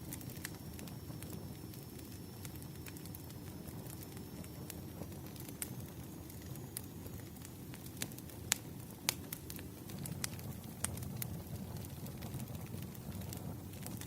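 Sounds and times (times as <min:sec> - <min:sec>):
campfire flames rumbling: 0:00.0 - 0:14.0
wood crackling and popping: 0:00.0 - 0:14.0.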